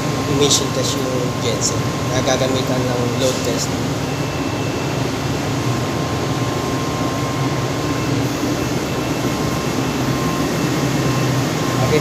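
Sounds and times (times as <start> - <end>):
high whine: 0.0 - 12.0
machinery humming: 0.0 - 12.0.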